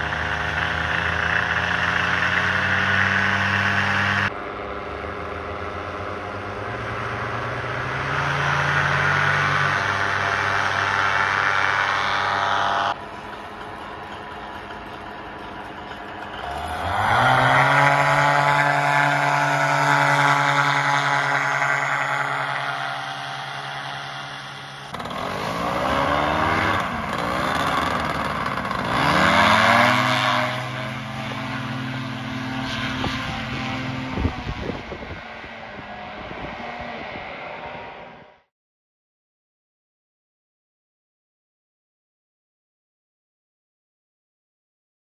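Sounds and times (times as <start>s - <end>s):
paramotor engine revving: 0.0s - 38.5s.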